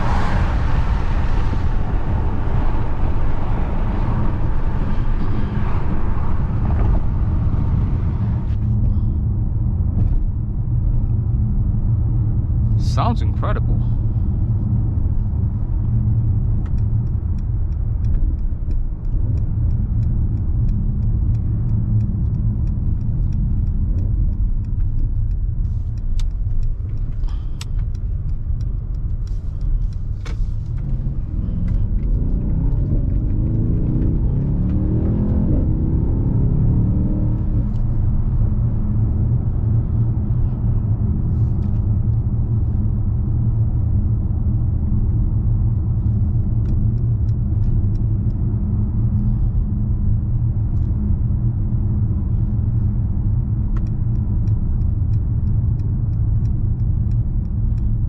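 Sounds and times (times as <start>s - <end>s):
car engine exhaust rumble: 0.0s - 58.0s.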